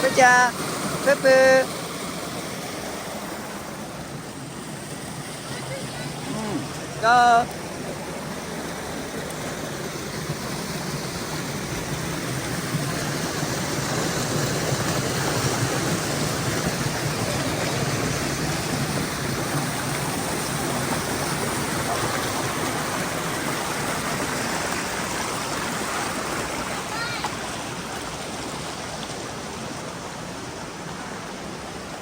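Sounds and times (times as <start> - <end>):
stream rushing over boulders: 0.0 - 32.0.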